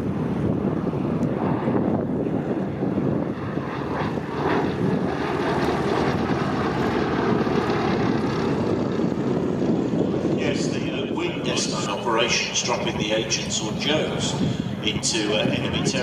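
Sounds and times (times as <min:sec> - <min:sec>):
wind noise on microphone: 0:00.0 - 0:11.9, 0:13.6 - 0:16.0
aircraft piston engine running: 0:00.0 - 0:16.0.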